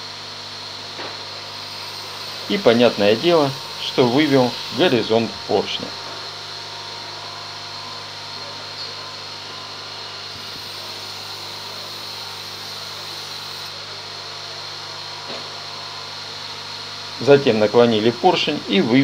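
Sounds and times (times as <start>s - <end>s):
electric motor humming: 0.0s - 19.0s.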